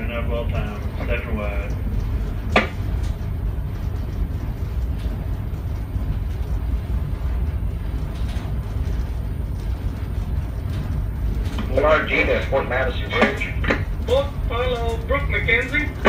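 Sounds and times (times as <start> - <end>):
diesel engines rumbling: 0.0 - 16.0.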